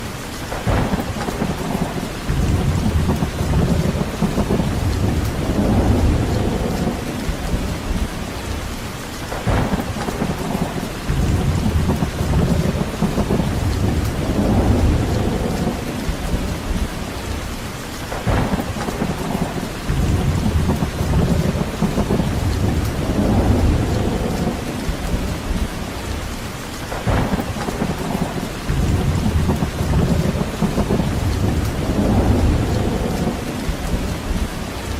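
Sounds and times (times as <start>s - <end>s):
steady rain: 0.0s - 34.9s
thunder rumbles: 0.0s - 34.9s
sharp thunder crack: 0.5s - 8.7s, 9.3s - 17.5s, 18.1s - 26.3s, 26.9s - 34.9s.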